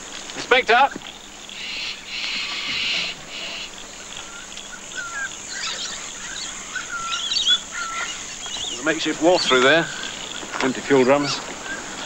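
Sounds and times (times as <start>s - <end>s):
faint insect buzz: 0.0s - 12.0s
bird chirps: 0.9s - 12.0s.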